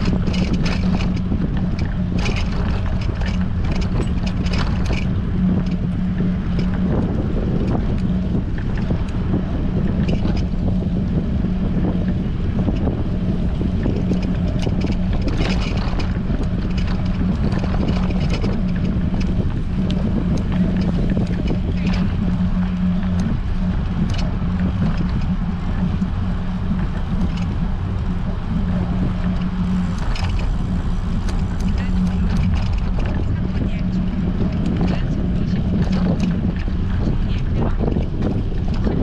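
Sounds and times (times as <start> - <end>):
constant low hum: 0.0 - 39.0
small ticks and rattles: 0.0 - 39.0
wind buffeting microphone: 0.0 - 39.0.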